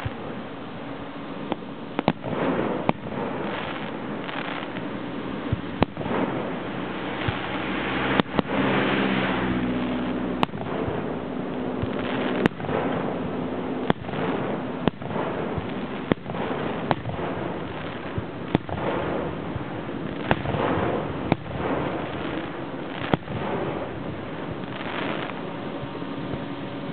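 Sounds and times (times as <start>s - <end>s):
firework bangs: 0.0s - 26.9s
firework crackle: 0.0s - 26.9s.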